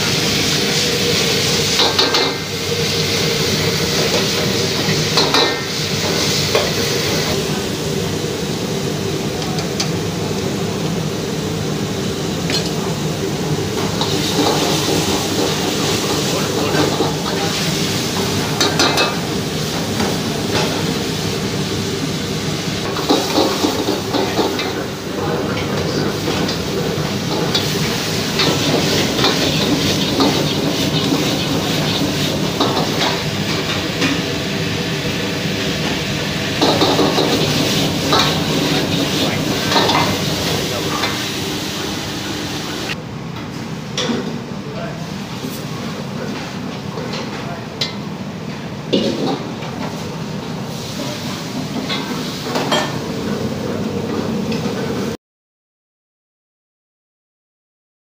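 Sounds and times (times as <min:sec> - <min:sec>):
gas burner rushing: 0:00.0 - 0:43.0, 0:49.0 - 0:55.2
food sizzling in a wok: 0:00.0 - 0:43.6, 0:49.0 - 0:55.2.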